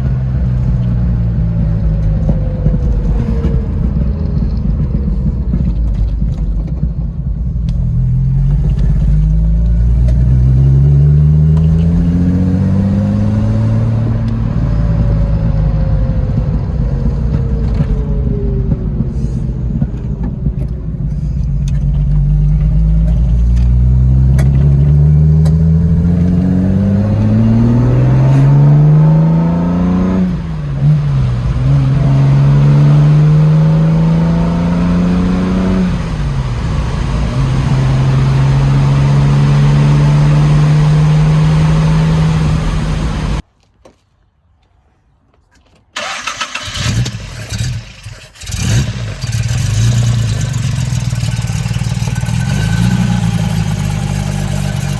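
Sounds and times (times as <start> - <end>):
car engine pulling through gears: 0.0 - 43.4, 46.0 - 54.9.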